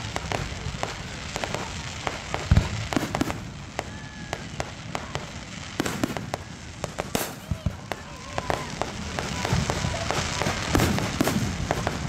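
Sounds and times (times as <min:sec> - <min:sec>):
deep firework boom: 0:00.0 - 0:12.0
fireworks popping and crackling: 0:00.0 - 0:12.0.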